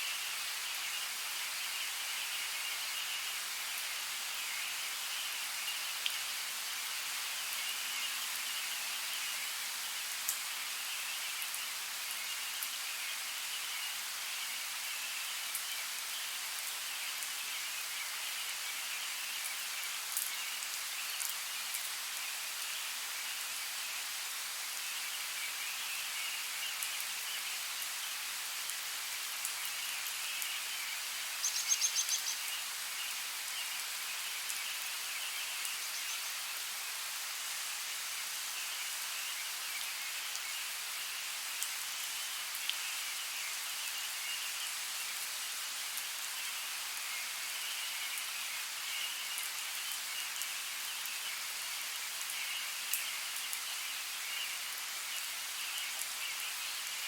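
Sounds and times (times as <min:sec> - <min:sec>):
rain in a forest: 0:00.0 - 0:57.0.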